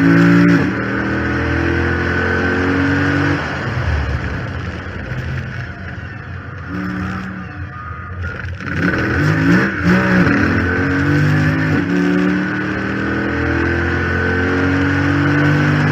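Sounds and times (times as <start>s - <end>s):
car engine accelerating: 0.0s - 15.9s
high whine: 0.0s - 15.9s.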